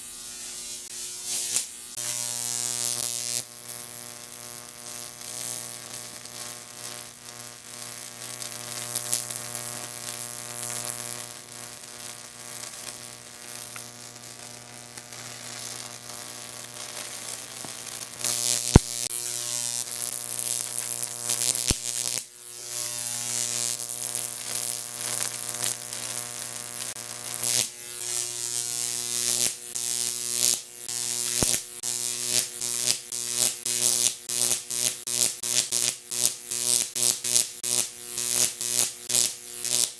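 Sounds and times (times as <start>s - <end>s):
crackling high-voltage arc: 0.0s - 39.9s
sharp electrical snap: 0.0s - 39.9s
steady electrical hum: 0.0s - 39.9s.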